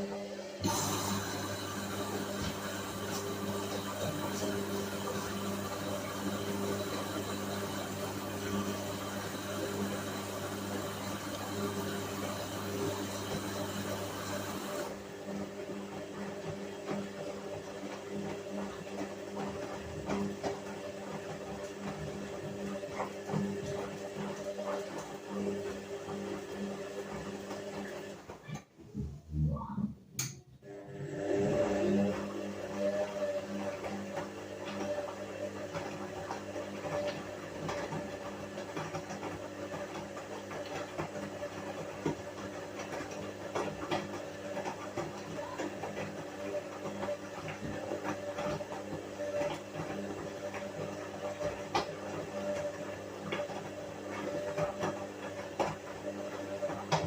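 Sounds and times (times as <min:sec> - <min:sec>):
washing machine motor hum: 0:00.0 - 0:57.0.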